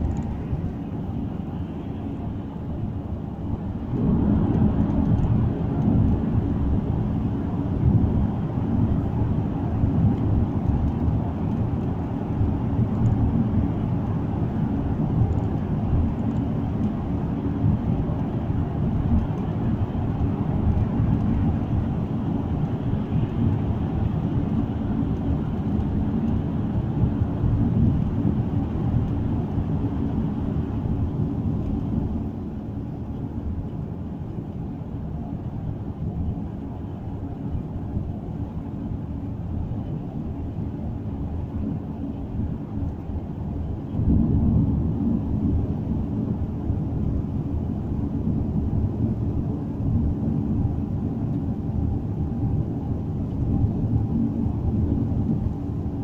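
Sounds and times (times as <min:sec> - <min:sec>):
car cabin road noise: 0:00.0 - 0:56.0.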